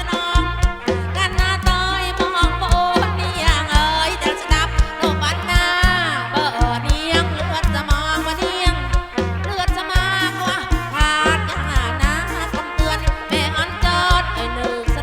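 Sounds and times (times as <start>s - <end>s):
heavy bass: 0.0s - 15.0s
steady drum beat: 0.0s - 15.0s.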